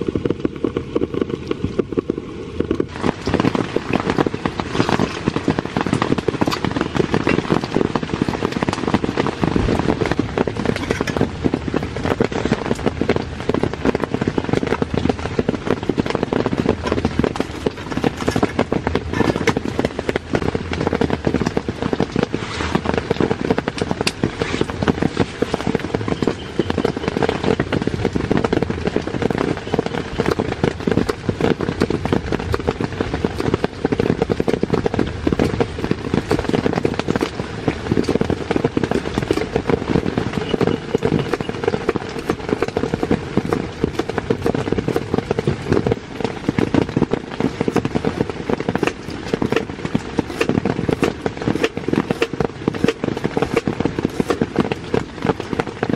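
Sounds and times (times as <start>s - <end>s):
heavy rain drumming on a tent: 0.0s - 55.9s.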